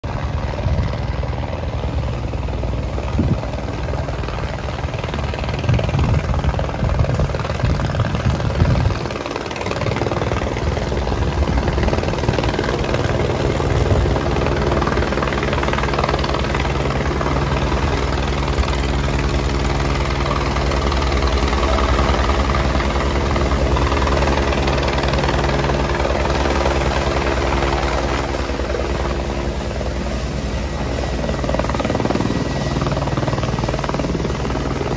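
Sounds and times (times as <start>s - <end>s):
helicopter rotor and engine: 0.0s - 34.9s.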